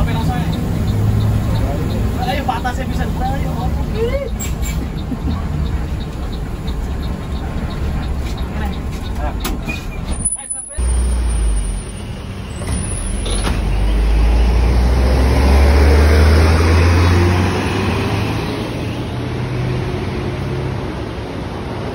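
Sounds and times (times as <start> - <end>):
bus diesel engine accelerating: 0.0 - 21.9.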